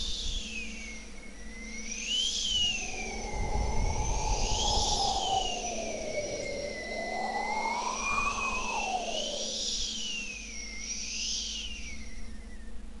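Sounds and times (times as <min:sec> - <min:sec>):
synthesized whistling tones: 0:01.4 - 0:12.2.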